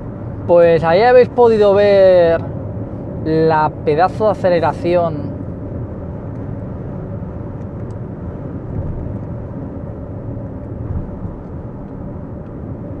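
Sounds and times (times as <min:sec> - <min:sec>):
car cabin tyre and wind rumble: 0:00.0 - 0:13.0.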